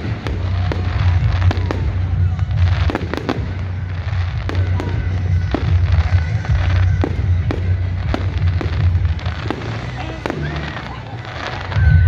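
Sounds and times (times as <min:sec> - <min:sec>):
continuous low rumble: 0:00.0 - 0:12.0
fireworks bursting with sharp bangs: 0:00.0 - 0:12.0.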